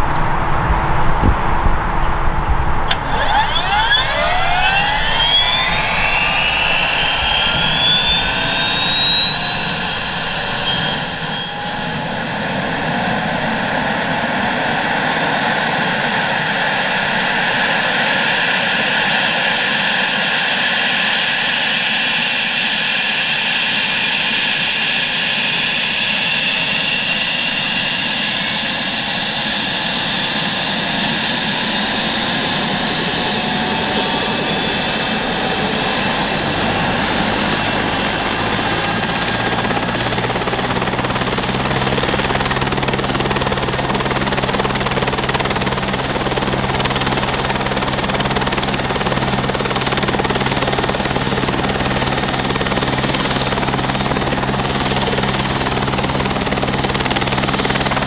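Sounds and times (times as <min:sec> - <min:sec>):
helicopter turbine engine whine: 0:00.0 - 0:58.0.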